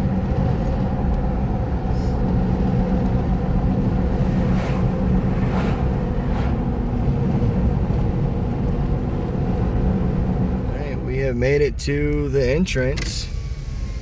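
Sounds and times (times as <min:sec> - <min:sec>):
truck engine and tyre rumble: 0:00.0 - 0:14.0.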